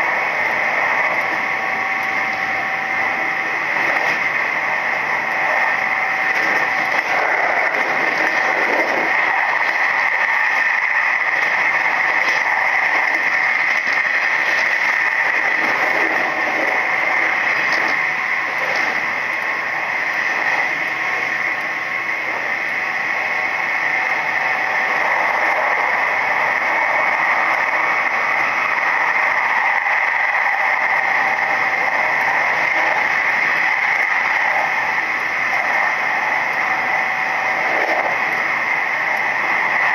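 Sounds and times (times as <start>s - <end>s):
steady high hum: 0.0s - 39.9s
train rolling noise from inside: 0.0s - 39.9s.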